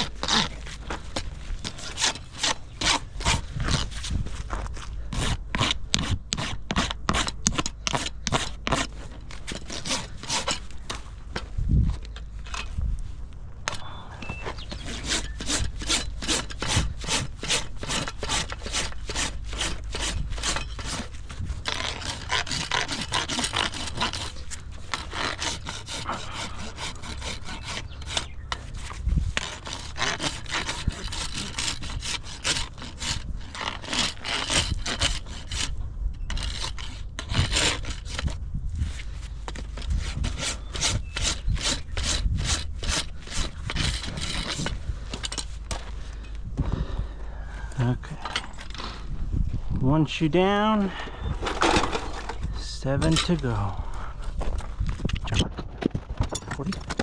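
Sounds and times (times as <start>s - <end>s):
hoof rasp filing a hoof: 0.0s - 11.2s, 13.7s - 47.0s, 50.9s - 53.7s.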